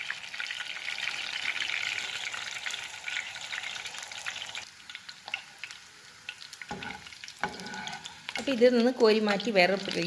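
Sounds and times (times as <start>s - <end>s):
leaves sizzling in hot oil: 0.0s - 10.0s.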